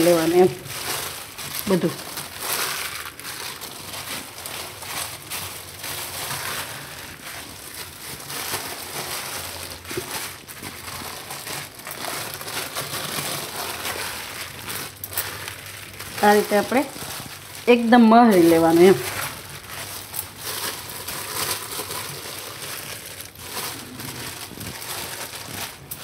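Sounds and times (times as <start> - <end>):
plastic sheet crinkling: 0.0 - 26.0.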